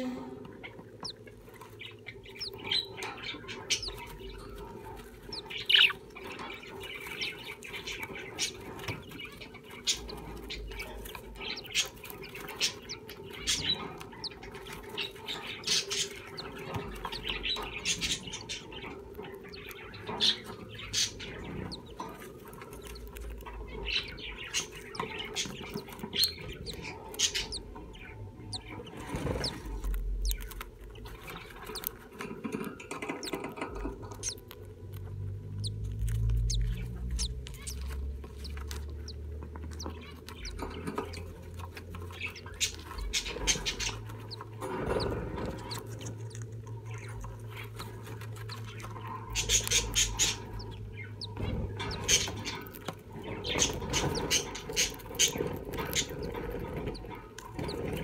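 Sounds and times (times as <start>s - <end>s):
birds rustling in wood shavings: 0.0s - 58.0s
faint steady hum: 0.0s - 58.0s
budgerigar high chirps: 0.6s - 34.6s, 35.6s - 58.0s.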